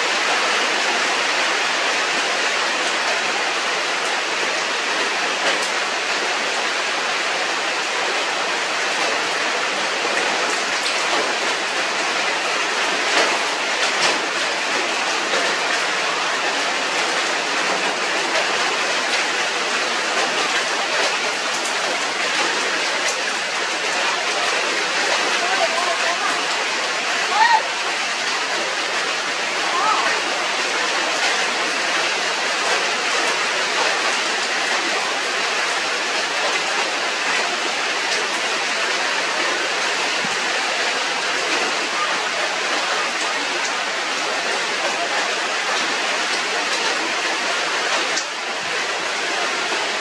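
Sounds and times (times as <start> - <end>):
steady rain hiss: 0.0 - 50.0.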